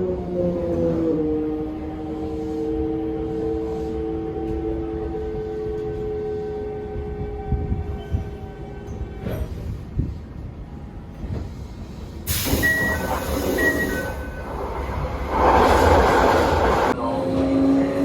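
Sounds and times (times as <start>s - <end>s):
train running rumble: 0.0s - 17.8s
loud rush of train noise: 0.0s - 18.0s.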